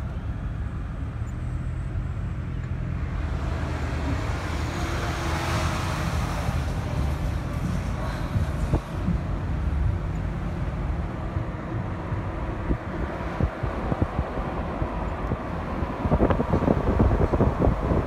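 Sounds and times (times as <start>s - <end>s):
road and engine rumble: 0.0s - 18.0s
wind buffeting microphone: 3.1s - 18.0s.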